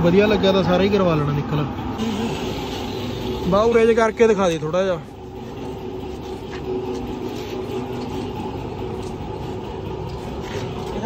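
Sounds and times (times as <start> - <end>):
motorcycle engine running: 1.6 - 11.0.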